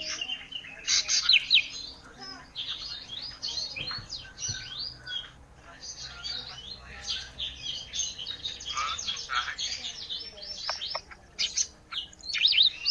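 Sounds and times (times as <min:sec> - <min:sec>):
songbird singing trills: 0:00.0 - 0:12.9.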